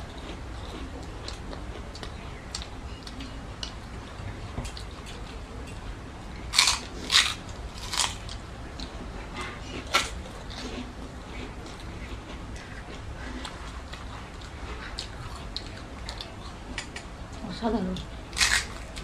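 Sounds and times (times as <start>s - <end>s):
people chewing: 0.0s - 19.0s.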